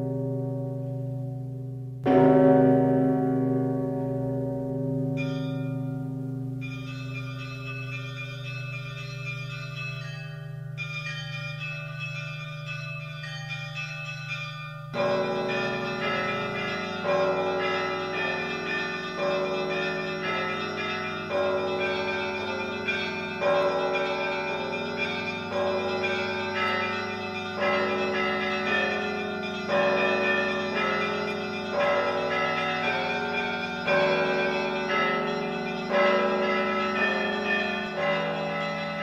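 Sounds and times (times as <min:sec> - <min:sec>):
church bells ringing: 0:00.0 - 0:39.0.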